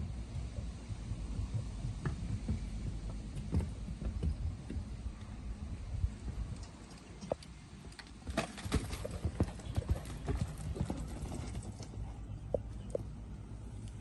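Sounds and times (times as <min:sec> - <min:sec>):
horse hoofbeats on sand: 0:00.0 - 0:06.6, 0:08.2 - 0:13.2.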